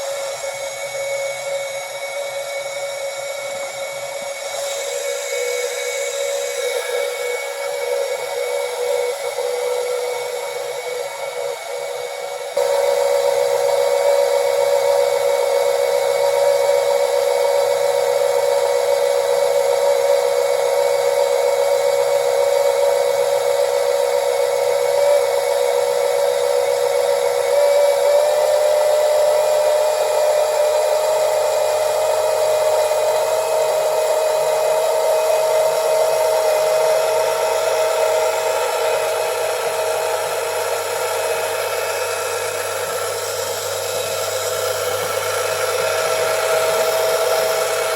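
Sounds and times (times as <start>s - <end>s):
oil extraction pump whining: 0.0s - 47.9s.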